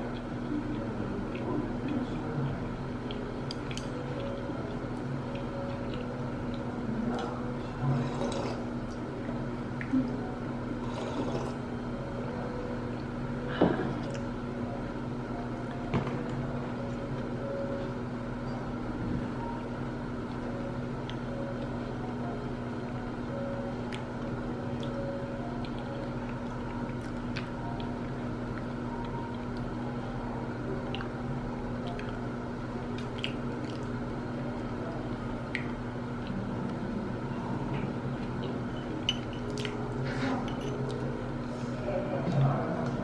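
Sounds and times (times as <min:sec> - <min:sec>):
restaurant room hum: 0:00.0 - 0:43.0.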